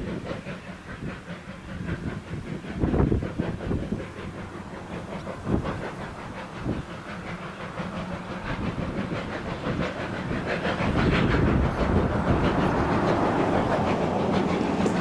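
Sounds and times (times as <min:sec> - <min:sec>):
steam locomotive chuffing: 0:00.0 - 0:15.0
train rumble: 0:00.0 - 0:15.0.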